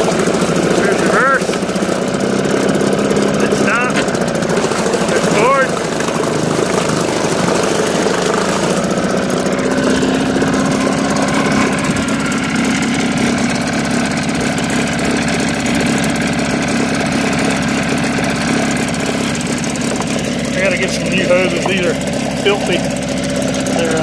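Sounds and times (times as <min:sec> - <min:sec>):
outboard motor running: 0:00.0 - 0:24.0
propeller churning water: 0:00.0 - 0:24.0.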